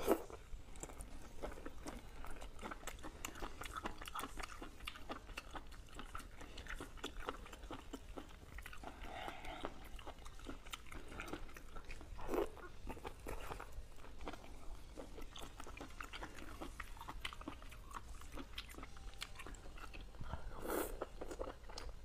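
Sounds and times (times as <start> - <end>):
wet chewing and mouth clicks: 0.2 - 22.0.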